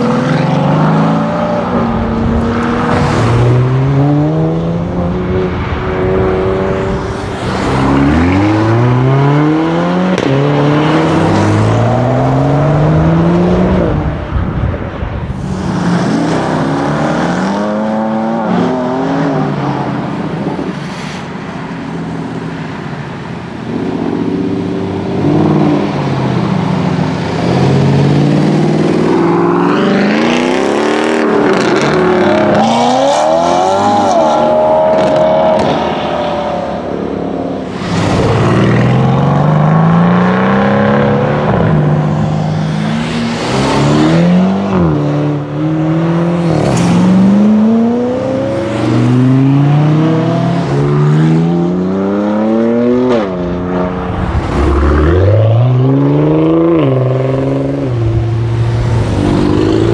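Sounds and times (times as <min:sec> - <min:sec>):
cars accelerating hard: 0:00.0 - 0:21.0, 0:23.6 - 0:59.9.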